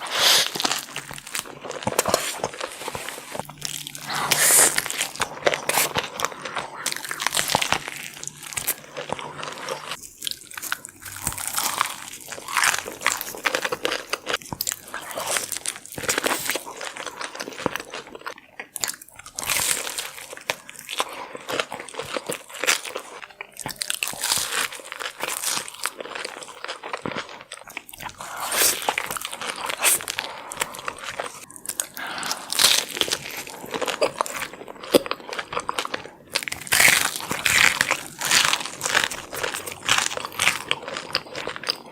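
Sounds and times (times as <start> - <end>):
wet chewing and smacking: 0.0 - 41.9.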